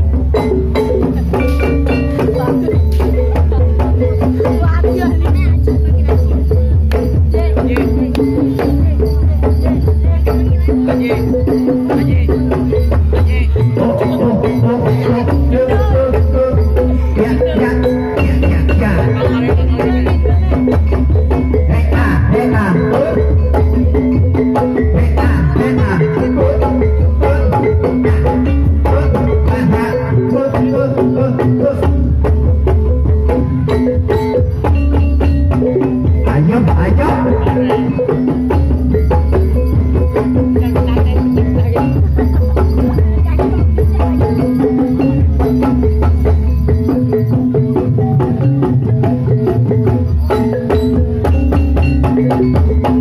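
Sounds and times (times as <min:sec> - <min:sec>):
gamelan music: 0:00.0 - 0:53.0
pitched percussion and drums: 0:00.0 - 0:53.0.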